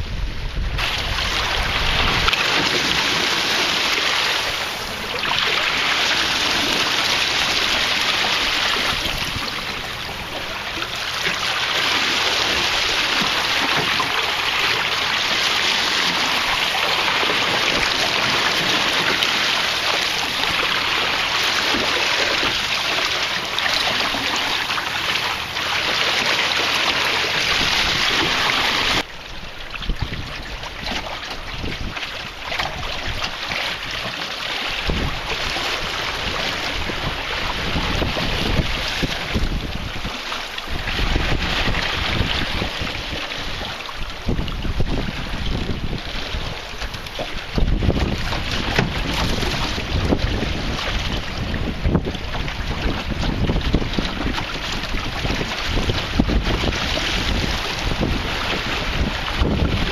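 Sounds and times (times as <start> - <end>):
water rushing along a hull: 0.0 - 59.9
wind on microphone: 0.0 - 59.9.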